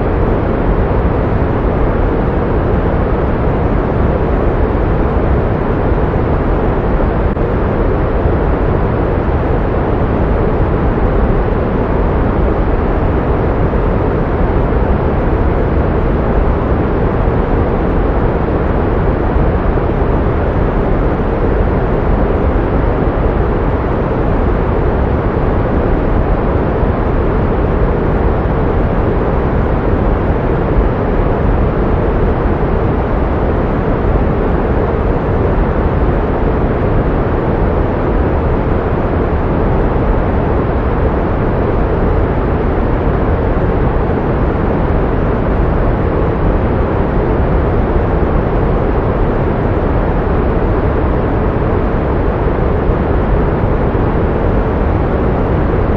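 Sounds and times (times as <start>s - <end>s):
pink noise hiss: 0.0s - 55.9s.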